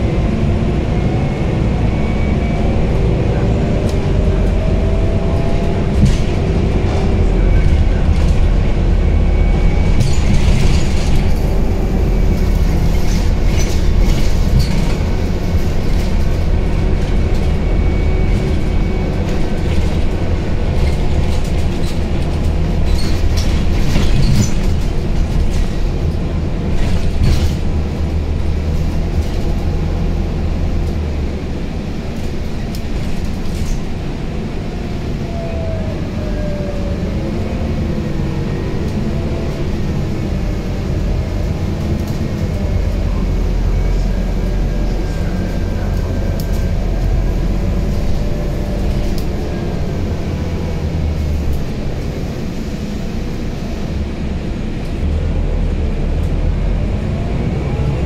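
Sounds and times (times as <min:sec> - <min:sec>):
bus engine low drone: 0:00.0 - 0:58.0
road noise: 0:00.0 - 0:58.0.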